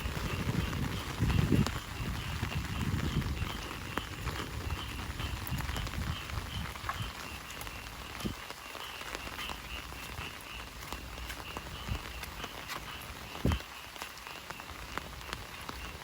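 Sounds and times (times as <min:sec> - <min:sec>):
footsteps on wet ground: 0:00.0 - 0:16.0
frogs croaking: 0:00.0 - 0:16.0
heavy rain pattering: 0:00.0 - 0:16.0.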